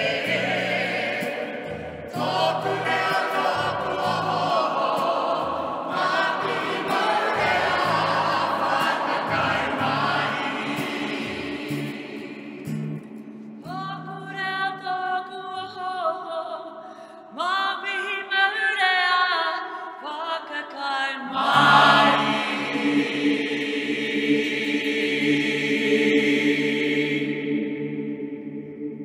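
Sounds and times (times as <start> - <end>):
choir singing with echo: 0.0 - 29.0.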